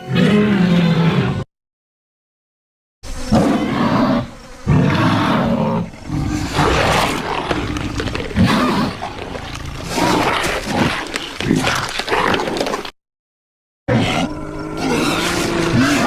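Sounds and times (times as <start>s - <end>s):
dinosaur roars and growls: 0.0s - 1.4s, 3.3s - 12.9s, 13.9s - 16.0s.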